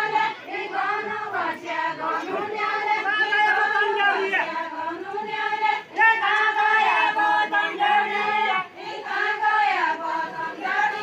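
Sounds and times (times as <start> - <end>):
group singing a folk song: 0.0 - 11.0.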